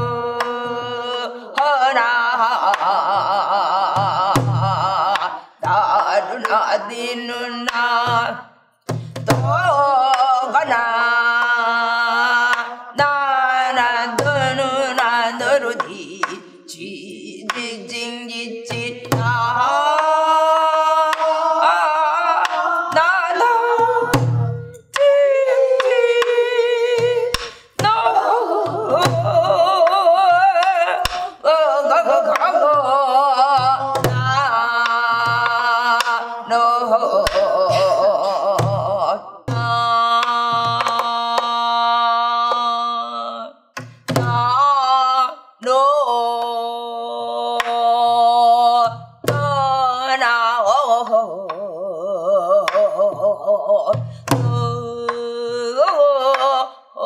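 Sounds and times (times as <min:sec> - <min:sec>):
woman singing wordless melody: 0:00.0 - 0:57.0.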